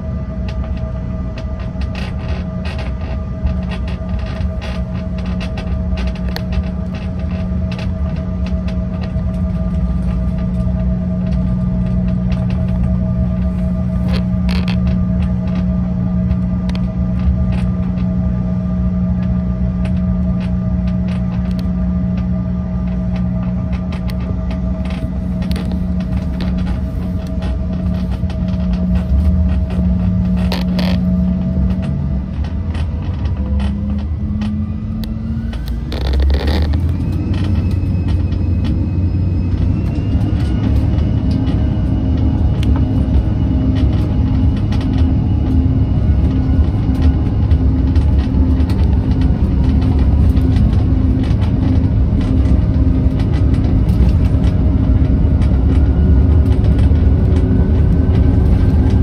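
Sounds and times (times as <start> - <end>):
heavy engine rumble: 0.0 - 59.0
jet engine whine: 0.0 - 59.0.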